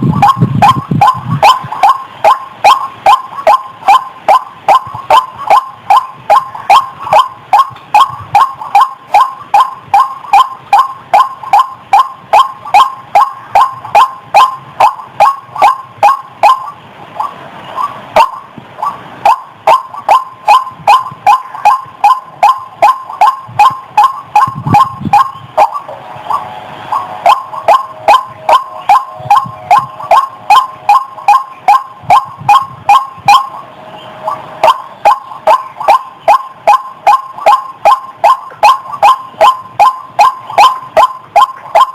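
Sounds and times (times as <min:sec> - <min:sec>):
waterhen calling: 0:00.0 - 0:41.9.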